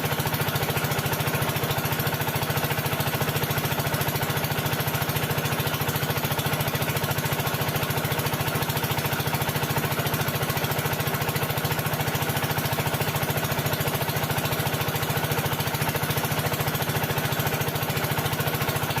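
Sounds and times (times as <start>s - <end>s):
machine running with rapid pulsing: 0.0s - 19.0s.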